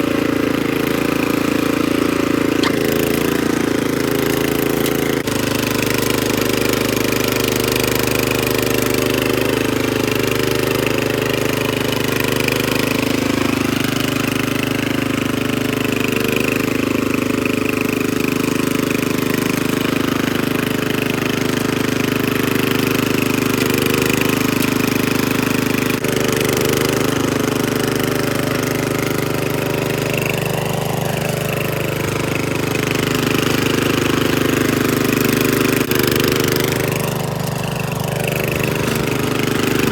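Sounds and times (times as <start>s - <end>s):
rototiller engine running: 0.0s - 39.9s.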